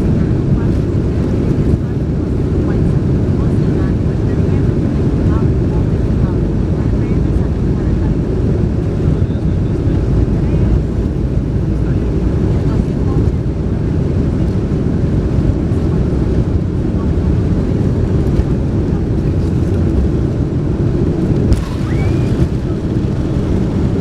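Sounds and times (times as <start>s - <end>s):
jet engine roar in cabin: 0.0s - 24.0s.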